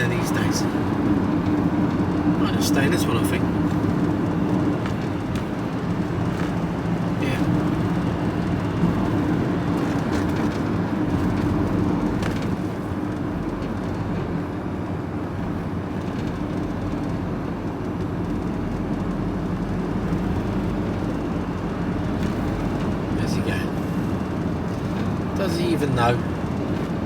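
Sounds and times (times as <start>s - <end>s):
vehicle engine and road drone: 0.0s - 27.0s.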